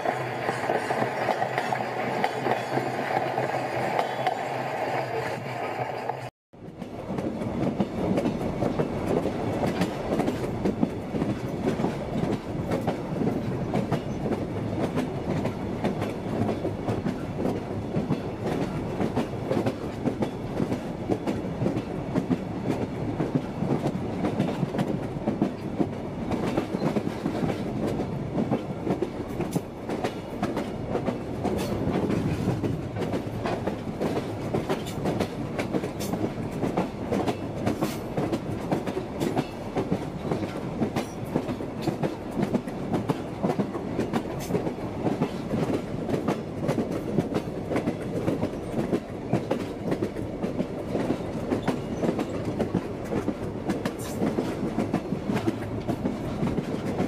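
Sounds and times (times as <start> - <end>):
railroad car rumble: 0.0 - 57.0
wheels clicking over rail joints: 0.0 - 57.0.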